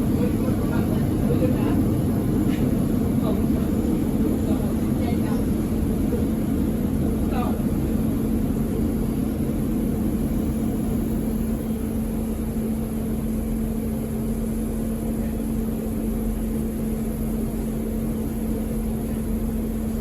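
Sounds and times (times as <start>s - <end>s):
train running drone: 0.0s - 20.0s.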